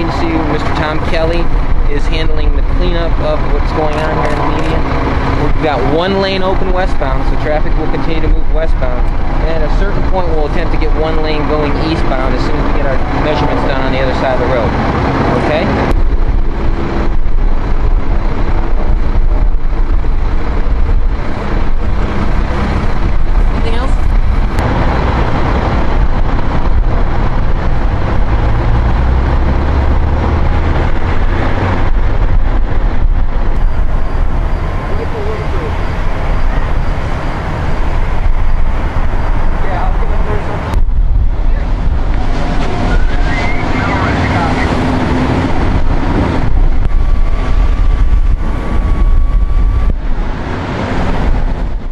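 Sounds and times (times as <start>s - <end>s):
highway traffic passing: 0.0s - 51.9s.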